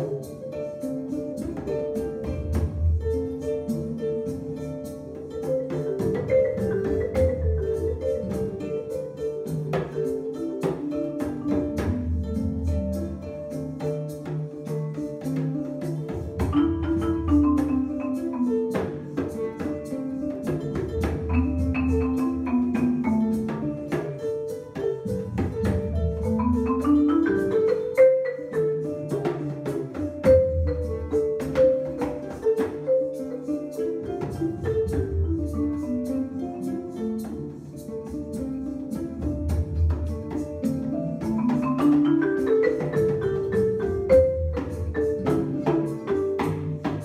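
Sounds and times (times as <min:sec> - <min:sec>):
marimba struck with mallets: 0:00.0 - 0:47.0.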